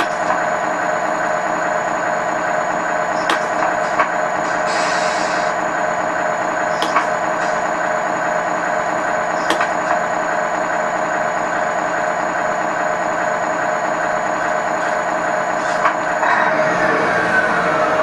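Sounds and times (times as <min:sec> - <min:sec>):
simulated truck engine idling: 0:00.0 - 0:18.0.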